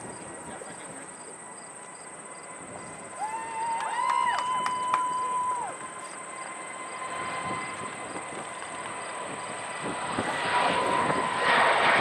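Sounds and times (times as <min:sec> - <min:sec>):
jet airliner engine rushing: 0:00.0 - 0:12.0.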